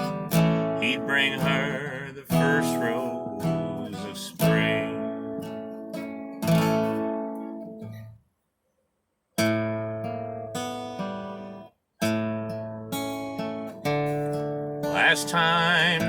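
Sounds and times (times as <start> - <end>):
acoustic guitar strumming: 0.0 - 8.2, 9.4 - 16.0.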